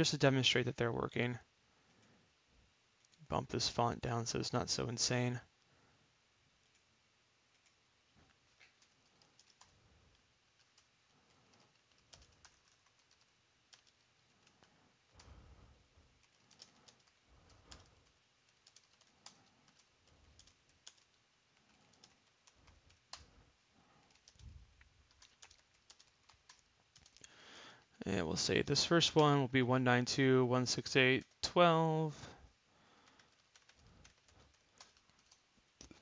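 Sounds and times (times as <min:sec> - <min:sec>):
faint keyboard typing: 0:00.0 - 0:02.3, 0:02.9 - 0:05.8, 0:06.5 - 0:29.3, 0:30.0 - 0:36.0.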